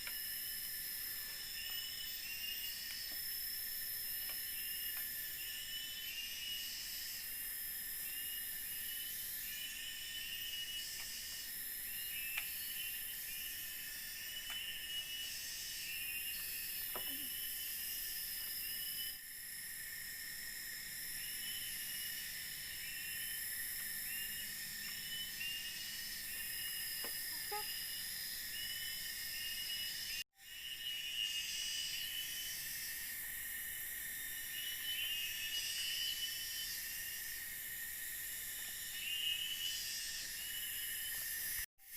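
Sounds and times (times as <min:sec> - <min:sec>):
insect chirping call: 0:00.0 - 0:41.9
insects buzzing: 0:00.0 - 0:41.9.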